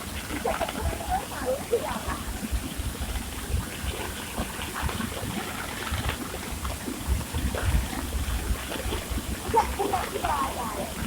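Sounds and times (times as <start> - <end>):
floodwater rushing in river: 0.0 - 11.0
wind buffeting microphone: 0.0 - 11.0.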